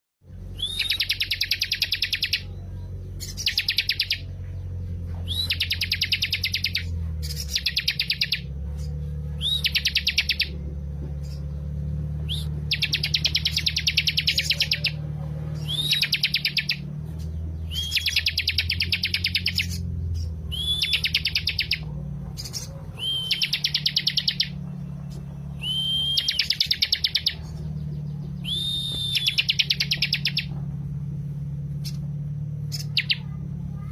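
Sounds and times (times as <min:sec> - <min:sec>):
steady low hum: 0:00.2 - 0:33.9
bird singing trills: 0:00.3 - 0:33.9.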